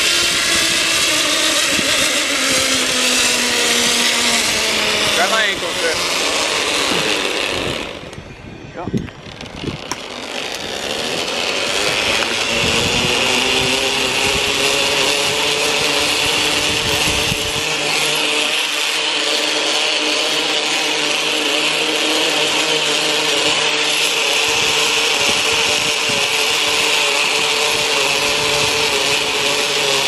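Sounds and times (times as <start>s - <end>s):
zipline pulleys whirring on cable: 0.0s - 30.0s.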